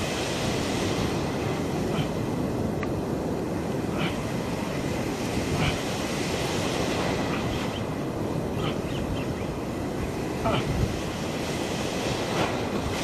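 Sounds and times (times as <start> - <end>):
surf breaking and washing: 0.0 - 13.0.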